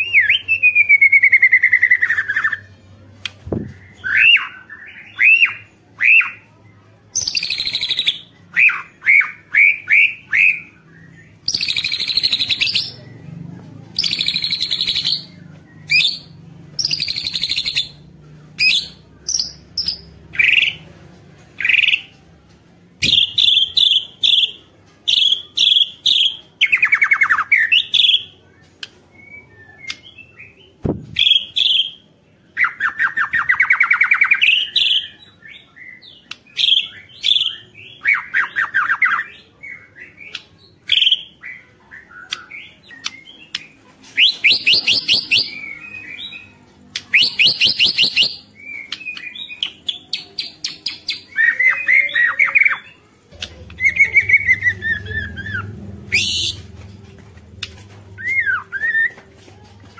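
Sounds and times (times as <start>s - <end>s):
songbird singing: 7.2s - 20.9s, 23.0s - 59.9s.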